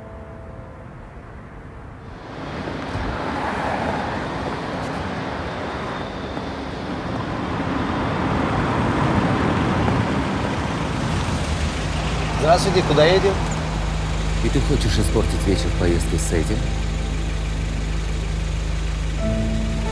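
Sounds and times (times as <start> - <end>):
car approaching: 0.0 - 19.9
city street traffic: 0.0 - 19.9.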